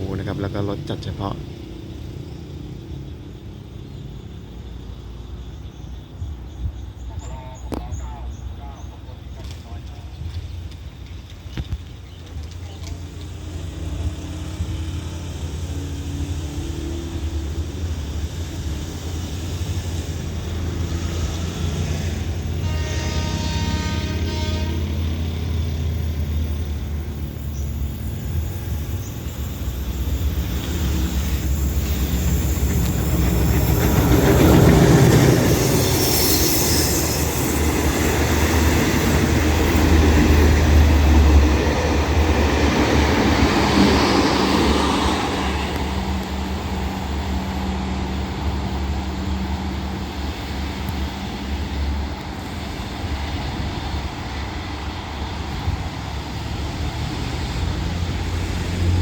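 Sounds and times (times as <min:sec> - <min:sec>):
train engine hum: 0:00.0 - 0:59.0
train wheels on rails: 0:00.0 - 0:59.0.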